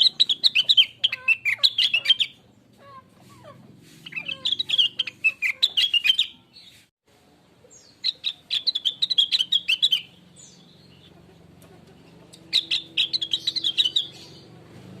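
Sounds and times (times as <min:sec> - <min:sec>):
bird rapid high chirping: 0:00.0 - 0:06.9, 0:07.7 - 0:11.2, 0:12.3 - 0:14.6.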